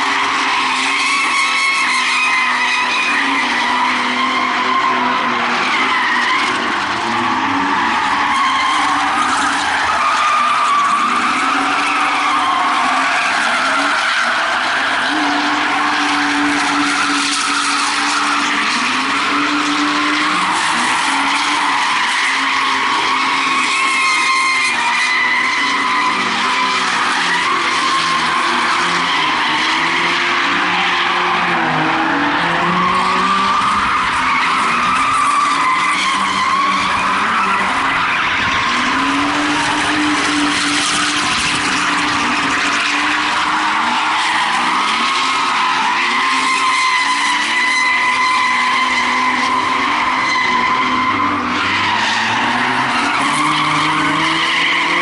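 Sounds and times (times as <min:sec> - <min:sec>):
car engines revving: 0:00.0 - 0:55.0
tyres squealing: 0:00.0 - 0:55.0.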